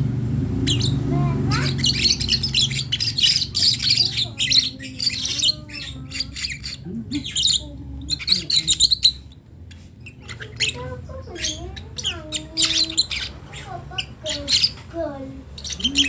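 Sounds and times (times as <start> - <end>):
bird chick squawking: 0.6 - 16.0.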